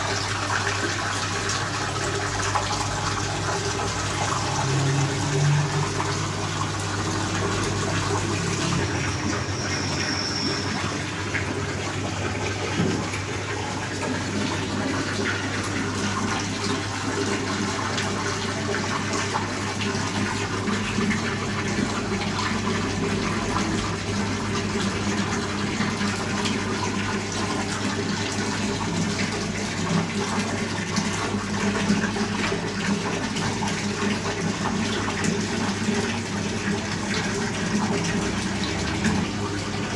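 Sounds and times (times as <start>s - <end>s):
water pouring into metal bowl: 0.0s - 39.9s.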